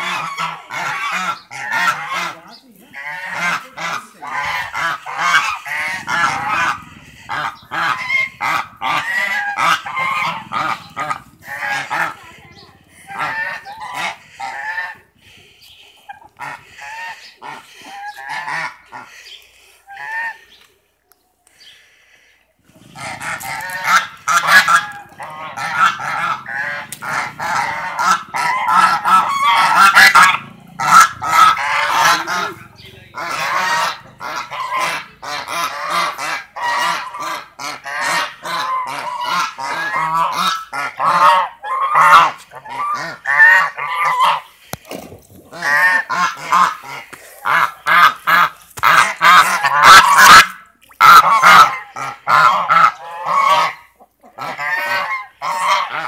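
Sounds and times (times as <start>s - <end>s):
geese honking: 0.0s - 20.7s, 22.8s - 56.0s.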